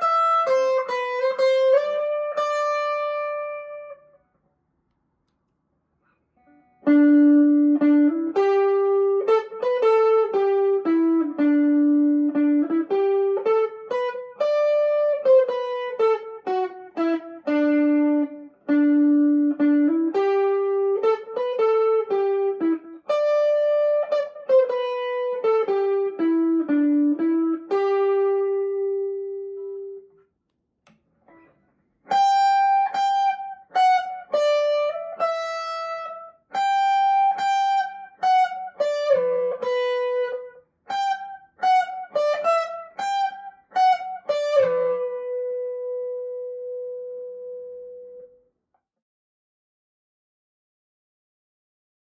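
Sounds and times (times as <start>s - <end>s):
electric guitar slow melody: 0.0s - 4.2s, 6.4s - 30.2s, 32.1s - 48.4s.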